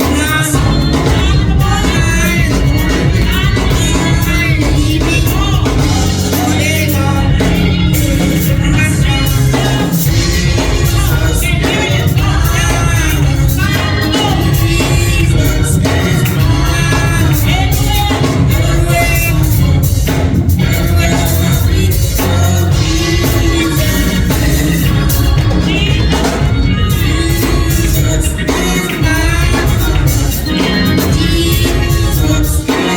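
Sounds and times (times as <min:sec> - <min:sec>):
band with steady beat: 0:00.0 - 0:32.9
gospel singing: 0:00.0 - 0:32.9.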